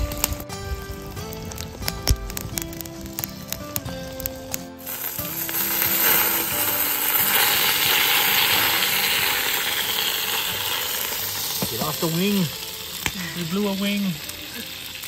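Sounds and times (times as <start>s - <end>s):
background music: 0.0s - 15.0s
hot oil sizzling loudly: 0.0s - 15.0s.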